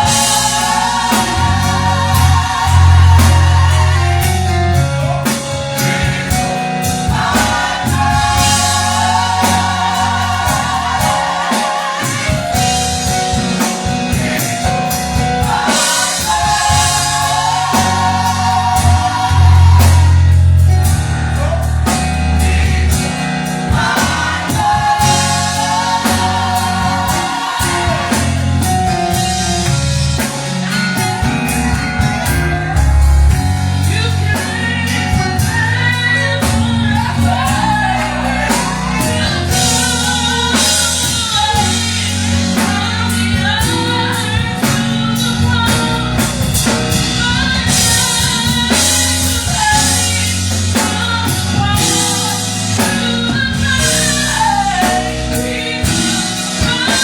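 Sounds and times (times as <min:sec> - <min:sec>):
drum kit beat: 0:00.0 - 0:57.0
group singing with vibrato: 0:00.0 - 0:57.0
heavy bass line: 0:00.0 - 0:57.0.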